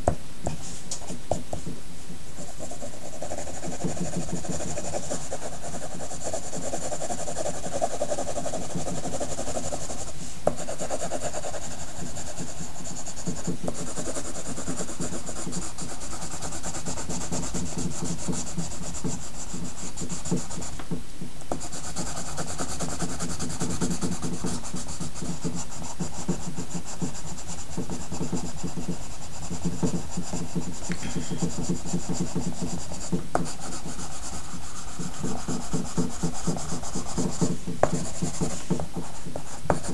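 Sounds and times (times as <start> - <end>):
pencil scratching on paper: 2.4 - 20.8, 21.5 - 39.9.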